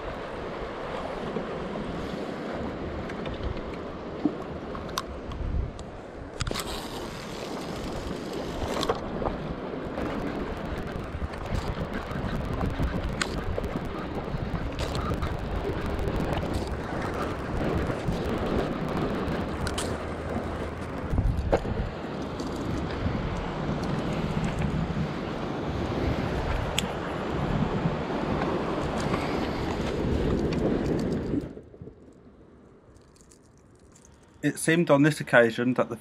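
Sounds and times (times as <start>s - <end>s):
wind buffeting microphone: 0.0s - 32.2s
sea waves: 0.0s - 35.9s.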